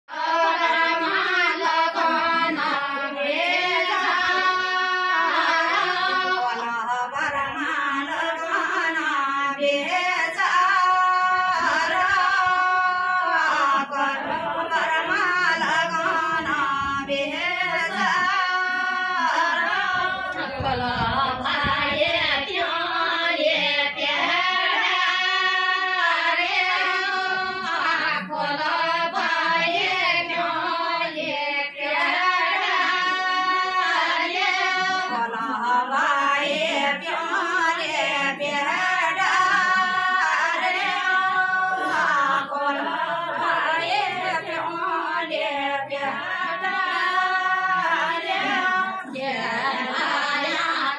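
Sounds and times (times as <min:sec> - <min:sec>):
women singing unaccompanied: 0:00.0 - 0:50.9.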